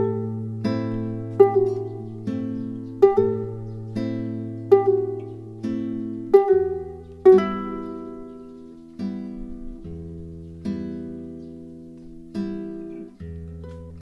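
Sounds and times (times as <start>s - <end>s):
plucked guitar chords: 0.0s - 14.0s.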